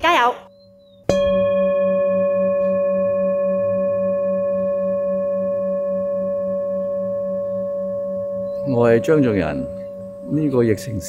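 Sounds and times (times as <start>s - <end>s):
struck metal bell ringing: 0.6s - 11.0s.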